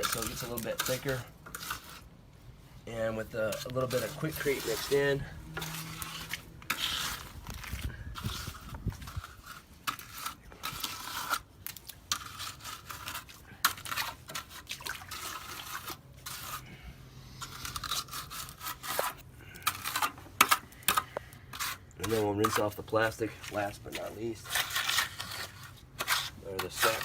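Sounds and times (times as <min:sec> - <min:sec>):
trowel scraping wet concrete: 0:00.0 - 0:02.1, 0:02.8 - 0:27.0.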